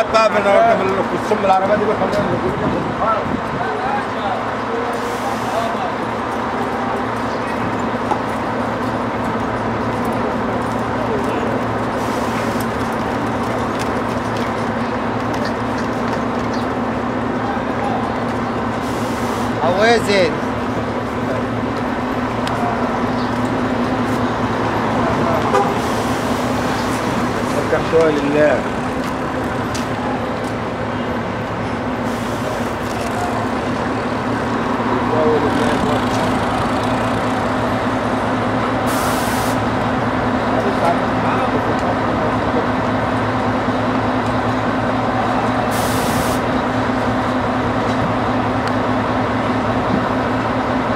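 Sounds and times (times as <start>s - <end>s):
street traffic noise: 0.0s - 50.9s
low engine hum: 5.5s - 50.9s.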